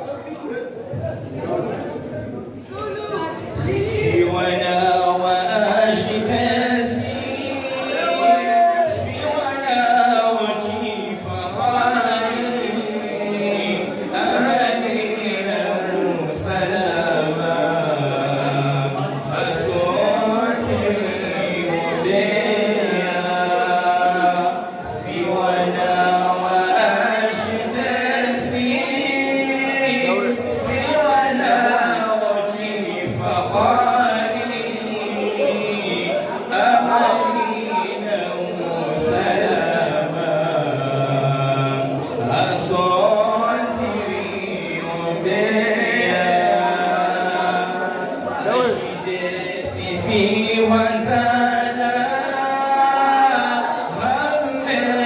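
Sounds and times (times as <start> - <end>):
men chanting into microphones: 0.0 - 55.0.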